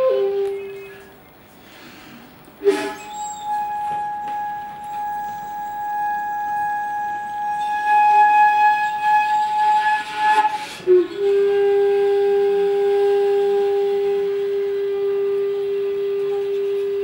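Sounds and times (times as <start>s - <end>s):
bamboo flute: 0.0s - 1.7s, 2.6s - 17.0s.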